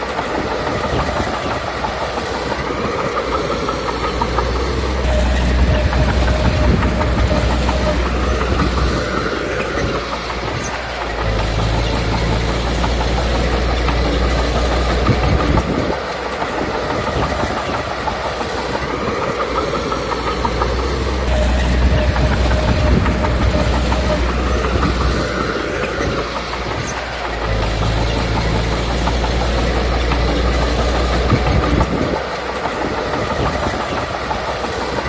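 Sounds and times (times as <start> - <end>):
bulldozer diesel engine running: 0.0 - 35.0
steel tracks clattering: 0.0 - 35.0.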